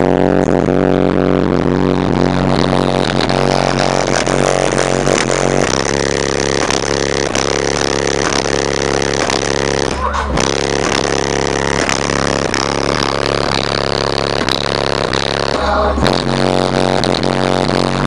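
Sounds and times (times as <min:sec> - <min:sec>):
bass-heavy music from car subwoofers: 0:00.0 - 0:18.0.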